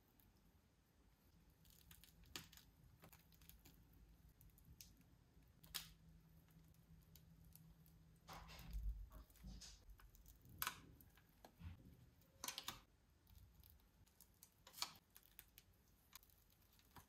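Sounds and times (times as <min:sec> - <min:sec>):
plastic piping bag crinkling: 0:01.5 - 0:17.0.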